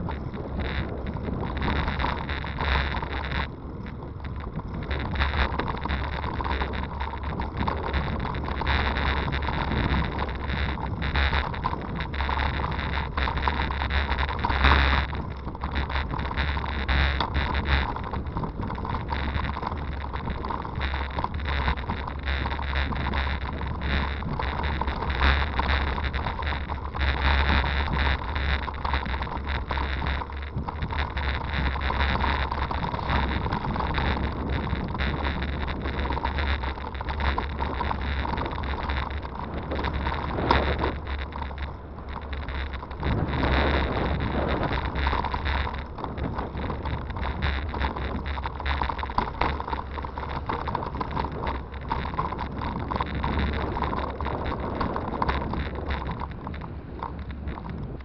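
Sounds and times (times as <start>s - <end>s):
bicycle rattles and knocks: 0.0s - 58.0s
bicycle tyre noise: 0.0s - 58.0s
wind rumbling on microphone: 0.0s - 58.0s.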